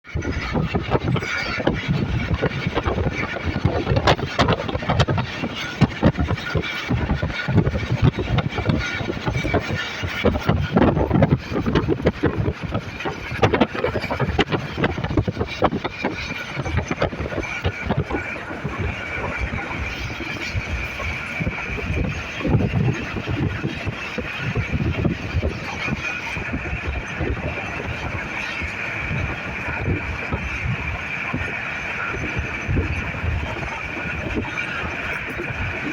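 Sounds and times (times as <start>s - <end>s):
steady rushing noise: 0.0s - 35.9s
train wheels clattering on track: 0.2s - 35.9s.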